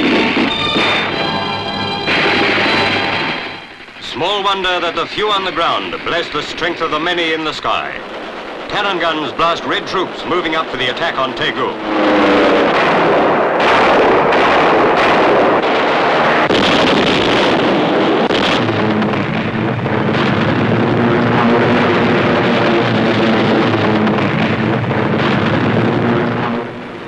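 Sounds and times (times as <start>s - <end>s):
aircraft cannon fire: 0.0s - 27.0s
engine drone: 0.0s - 27.0s
explosions: 0.0s - 27.0s.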